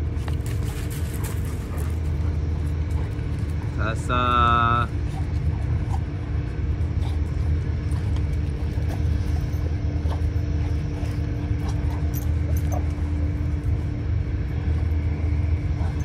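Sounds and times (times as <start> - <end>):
machine rumbling with hum: 0.0 - 16.0.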